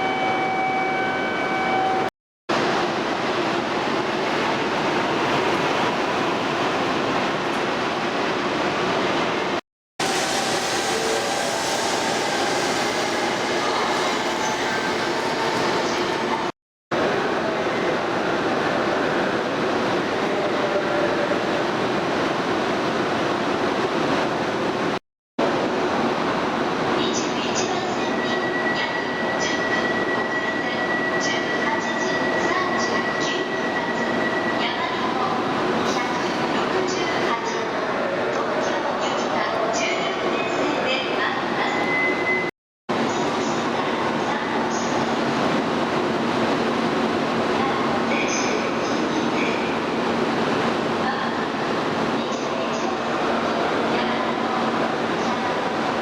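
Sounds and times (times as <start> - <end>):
train and platform din: 0.0 - 56.0.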